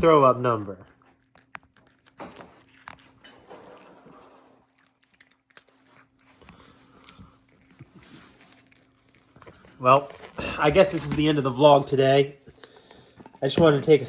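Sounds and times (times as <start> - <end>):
animal chewing crunchy treats: 0.0 - 14.0.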